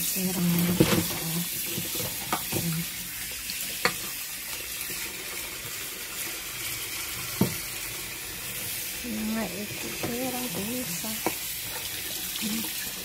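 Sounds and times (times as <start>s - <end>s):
tap water running into steel sink: 0.0s - 13.0s.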